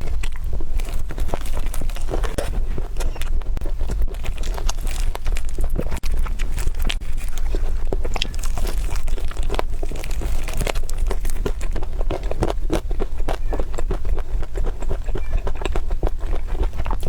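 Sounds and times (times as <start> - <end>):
crunching and chewing food: 0.0 - 17.0.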